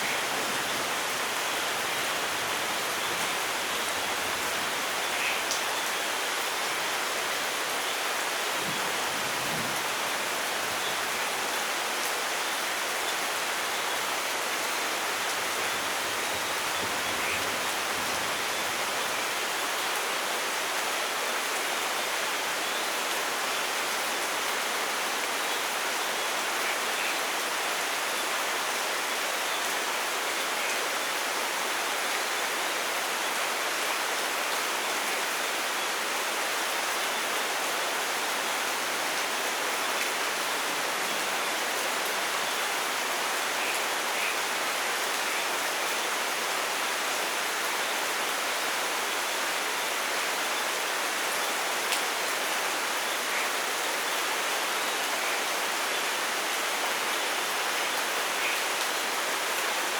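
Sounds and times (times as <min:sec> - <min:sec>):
dense rainfall: 0:00.0 - 0:59.9.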